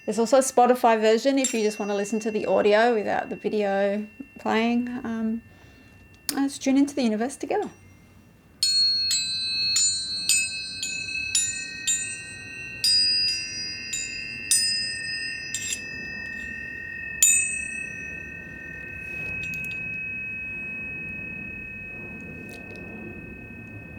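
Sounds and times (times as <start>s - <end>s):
metal chimes struck: 0.0s - 23.9s.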